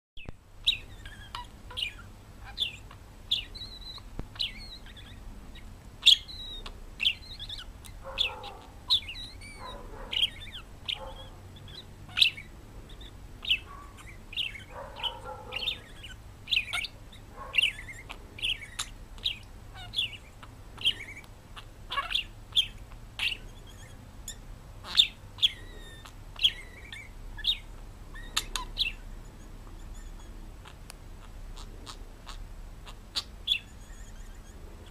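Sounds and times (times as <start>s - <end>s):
parrot chirping: 0.2s - 34.9s.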